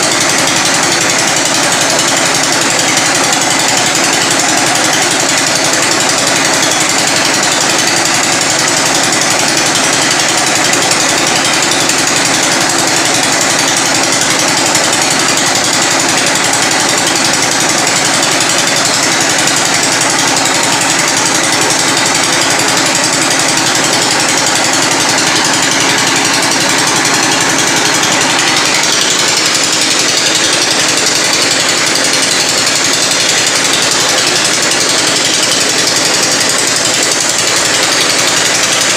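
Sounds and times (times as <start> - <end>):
rig engine running: 0.0 - 38.9
rock drill hammering: 0.0 - 38.9.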